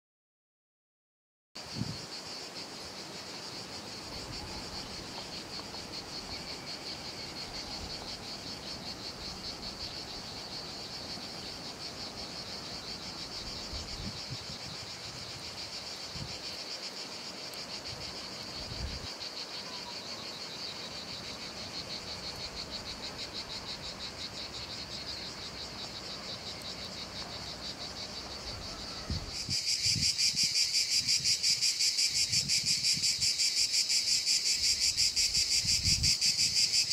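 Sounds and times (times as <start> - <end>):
insects chirring: 1.6 - 36.9.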